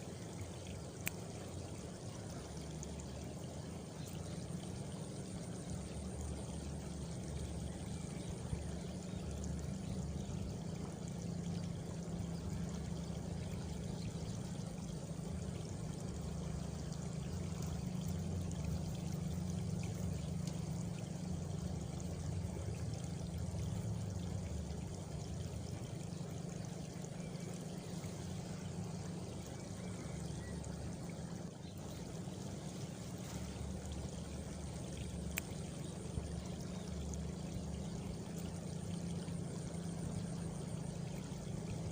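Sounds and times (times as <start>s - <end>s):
water trickling: 0.0s - 41.9s.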